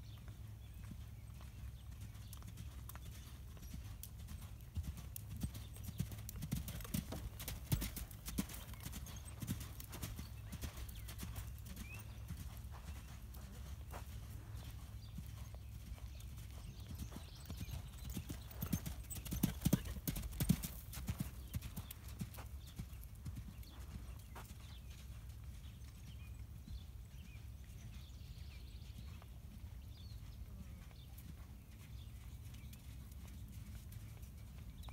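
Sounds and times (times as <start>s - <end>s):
horse hoofbeats on sand: 0.7s - 34.9s.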